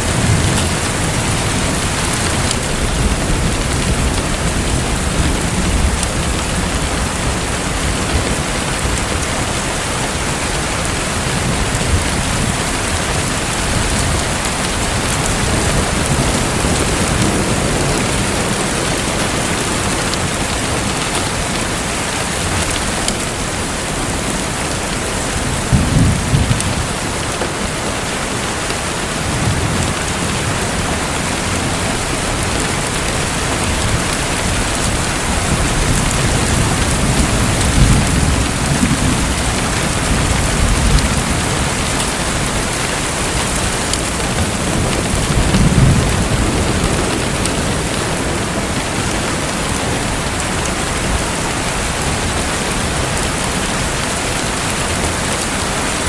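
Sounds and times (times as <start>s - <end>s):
rushing splashing water: 0.0s - 56.0s.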